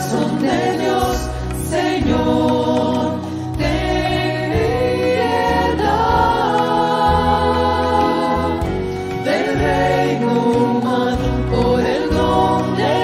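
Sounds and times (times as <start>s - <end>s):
guitars: 0.0s - 13.0s
mixed choir singing: 0.0s - 13.0s
violin: 0.0s - 13.0s.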